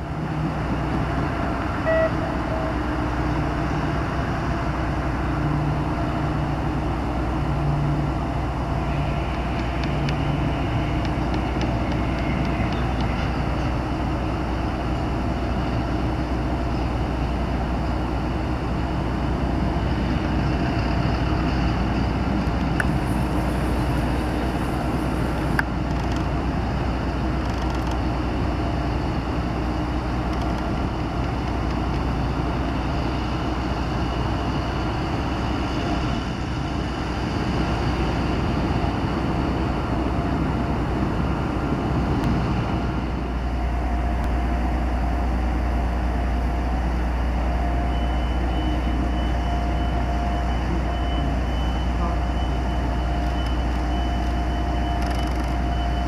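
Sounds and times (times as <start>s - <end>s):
low mechanical hum: 0.0s - 56.0s
outdoor rumble: 0.0s - 56.0s.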